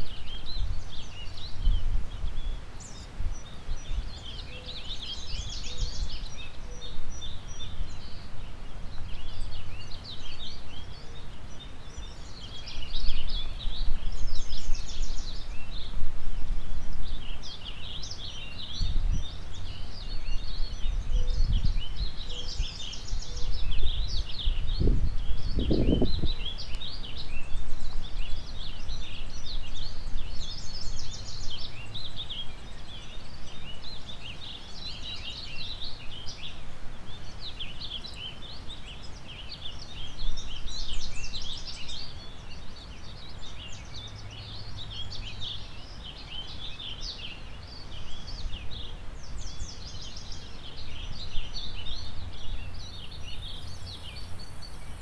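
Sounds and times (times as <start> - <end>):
wind rumble on microphone: 0.0 - 10.8, 11.8 - 34.6, 39.5 - 55.0
songbirds singing and chirping: 0.0 - 55.0.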